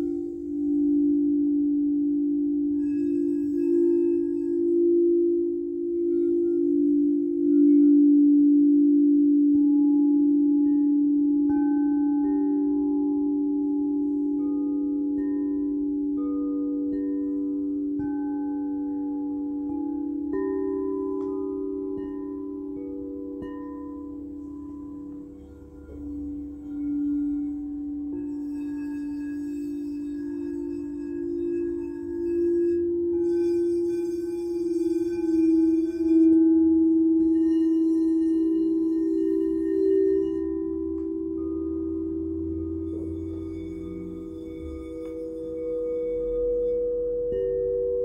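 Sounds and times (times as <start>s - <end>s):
singing bowls ringing: 0.0s - 48.0s
high chime-like notes: 9.5s - 48.0s.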